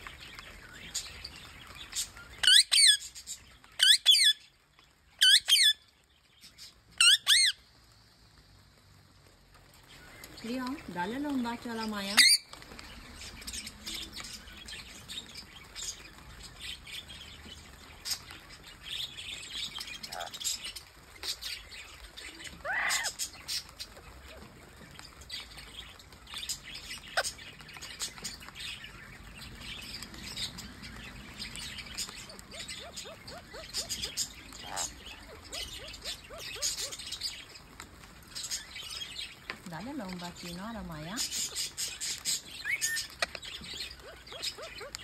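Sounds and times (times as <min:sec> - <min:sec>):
parakeets chirping and squawking: 0:00.0 - 0:07.6, 0:09.8 - 0:45.0.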